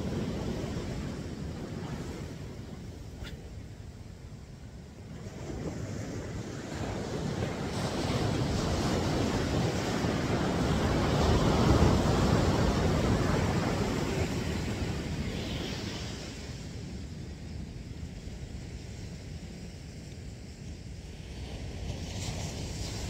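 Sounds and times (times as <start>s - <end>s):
wind buffeting microphone: 0.0s - 19.8s
ocean surf on a beach: 0.0s - 23.0s.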